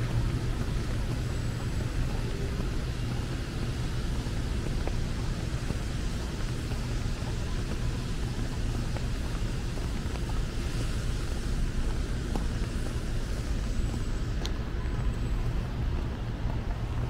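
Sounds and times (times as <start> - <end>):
engine rumble: 0.0 - 17.0
traffic hiss: 0.0 - 17.0.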